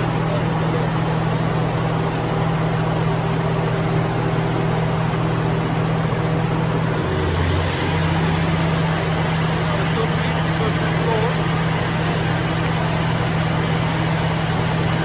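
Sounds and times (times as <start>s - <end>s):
diesel generator droning: 0.0s - 15.0s.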